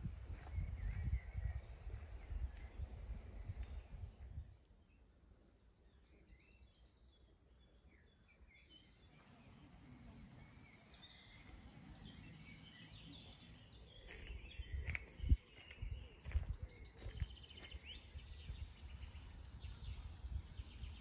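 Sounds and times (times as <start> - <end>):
birds chirping and trilling: 0.3 - 21.0.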